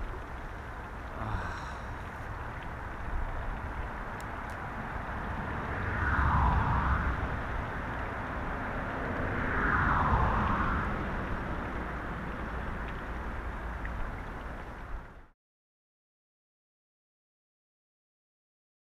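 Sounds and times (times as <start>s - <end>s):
river water flowing: 0.0s - 15.3s
wind: 0.0s - 15.4s.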